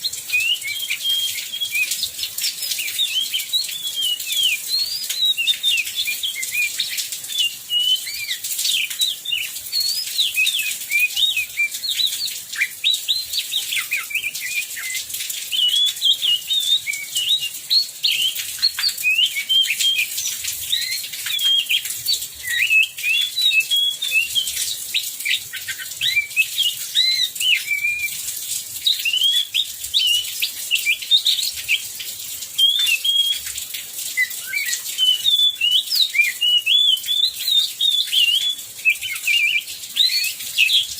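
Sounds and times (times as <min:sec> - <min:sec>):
bird singing chirps and whistles: 0:00.0 - 0:40.9.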